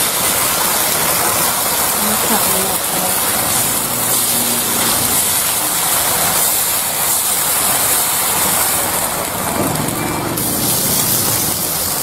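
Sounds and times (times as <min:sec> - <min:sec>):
batter sizzling in hot pan: 0:00.0 - 0:12.0.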